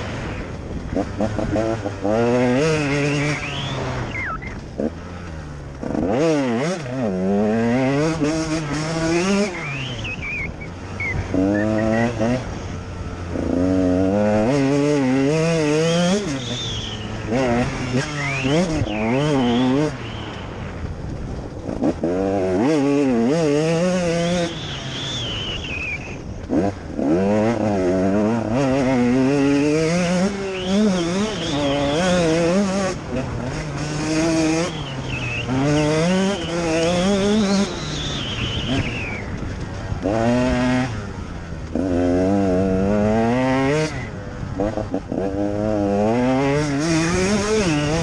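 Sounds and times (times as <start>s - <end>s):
motorcycle engine under throttle: 0.0s - 48.0s.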